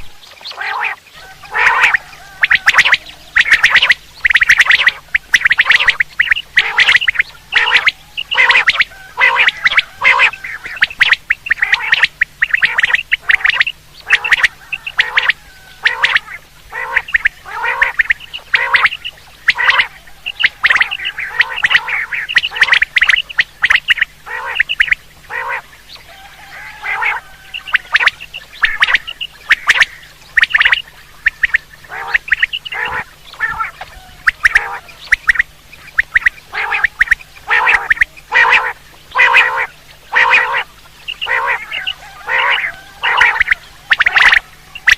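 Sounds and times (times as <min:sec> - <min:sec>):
faint low hum: 0:00.0 - 0:44.9
quail calling: 0:00.0 - 0:44.9.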